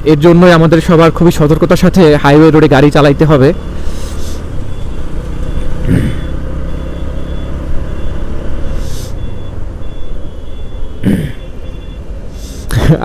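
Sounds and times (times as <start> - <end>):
motorcycle engine and road rumble: 0.0 - 13.0.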